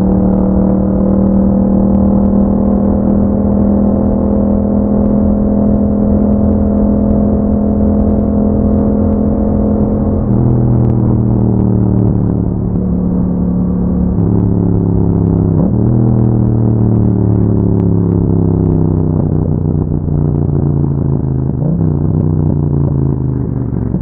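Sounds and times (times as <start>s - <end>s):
motorcycle engine riding: 0.0s - 24.0s.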